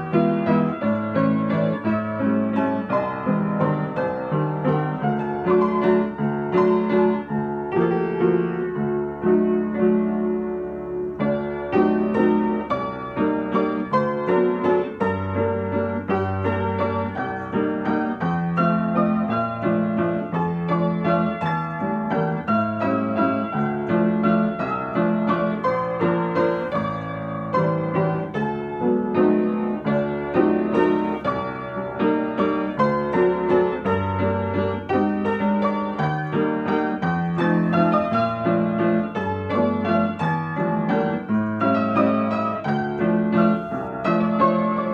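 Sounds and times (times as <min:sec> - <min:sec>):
upright piano playing: 0:00.0 - 0:44.9.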